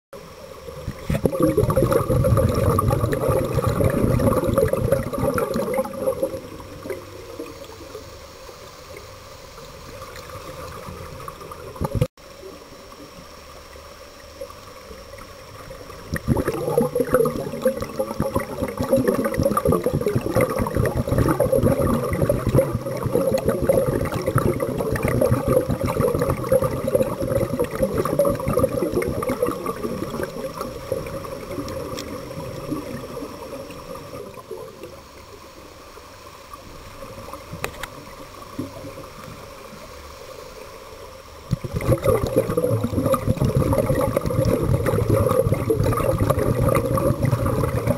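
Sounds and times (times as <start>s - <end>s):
underwater scuba bubbles: 0.2s - 47.9s.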